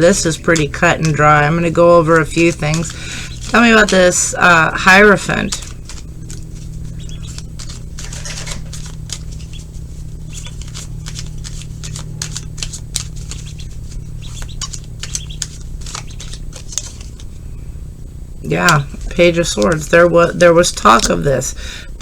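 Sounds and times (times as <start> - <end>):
cards being shuffled: 0.0 - 17.4, 18.5 - 21.6
steady low hum: 0.0 - 22.0.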